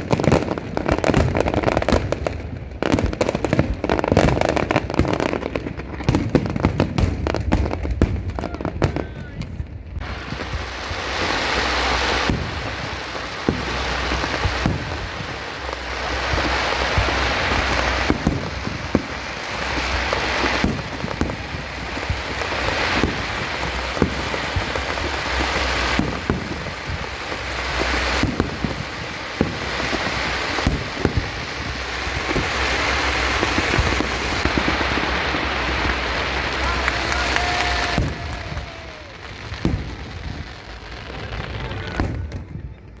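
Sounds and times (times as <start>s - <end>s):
fireworks bangs: 0.0s - 43.0s
fireworks crackling: 0.0s - 43.0s.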